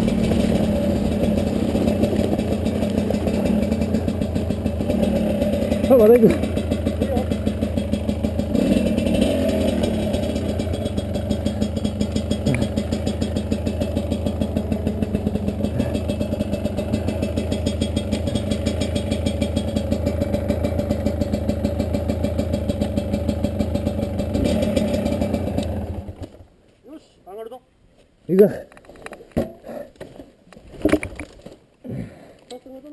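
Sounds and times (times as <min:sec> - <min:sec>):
dirt bike engine revving: 0:00.0 - 0:26.4
dirt bike engine idling: 0:00.0 - 0:26.5.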